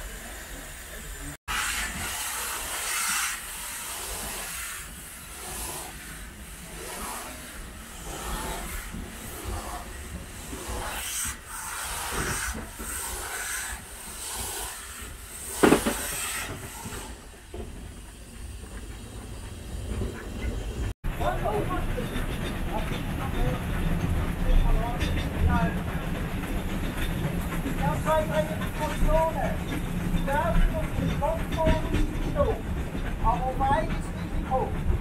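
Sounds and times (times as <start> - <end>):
steam locomotive hissing steam: 0.0 - 35.0.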